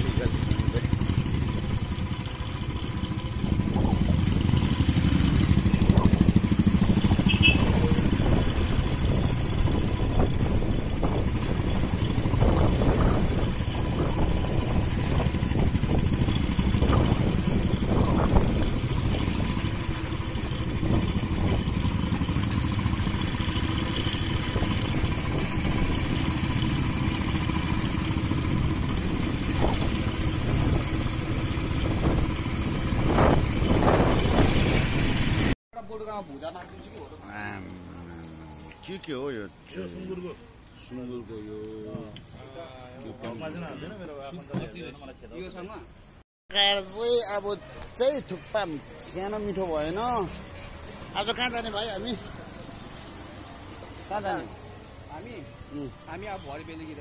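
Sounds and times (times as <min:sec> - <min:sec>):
motorcycle engines running: 0:00.0 - 0:42.4, 0:46.7 - 0:57.0
street traffic: 0:00.0 - 0:57.0.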